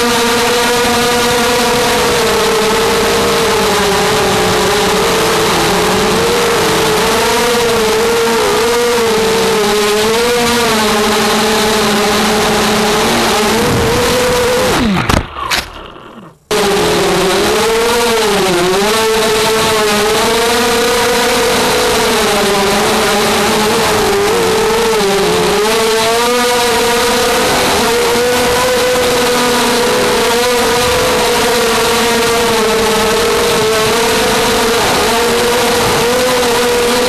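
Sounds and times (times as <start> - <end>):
quadcopter propellers whining: 0.0 - 37.0.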